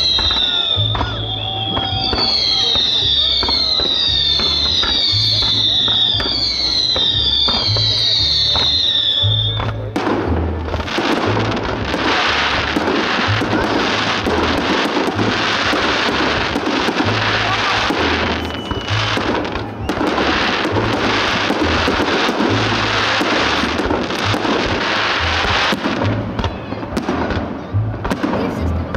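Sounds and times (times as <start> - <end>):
loud music with pulsing bass: 0.0 - 26.5
fireworks bursting and crackling: 0.0 - 28.9.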